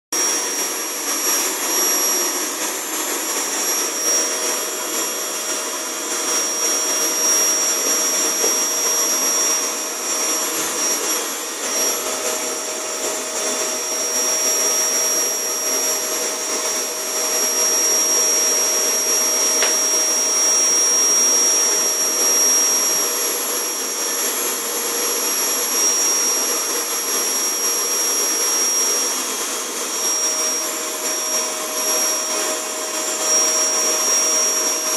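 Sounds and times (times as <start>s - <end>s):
vacuum cleaner running: 0.2s - 34.9s.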